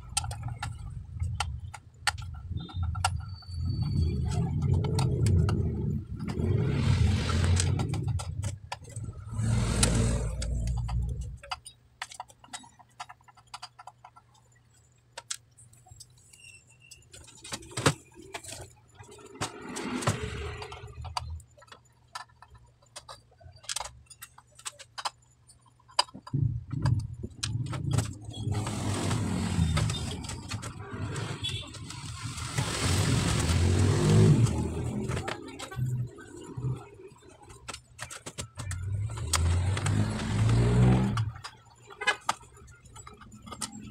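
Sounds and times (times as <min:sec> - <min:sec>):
clicks and light rattles: 0:00.0 - 0:06.4, 0:07.4 - 0:32.2, 0:34.4 - 0:43.9.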